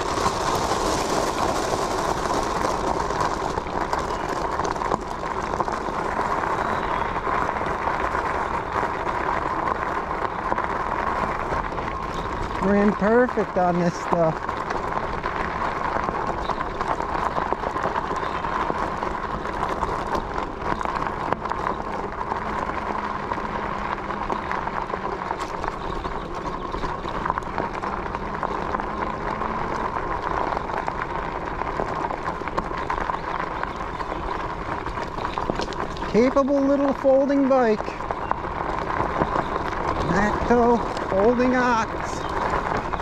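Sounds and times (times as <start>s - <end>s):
tyres crunching on gravel: 0.0s - 43.0s.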